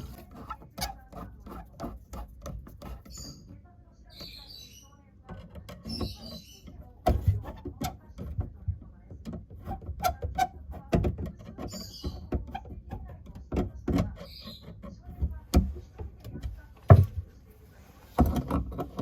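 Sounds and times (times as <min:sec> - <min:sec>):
knocks and clatter of hand work: 0:00.0 - 0:03.6, 0:05.3 - 0:17.4, 0:18.0 - 0:19.0.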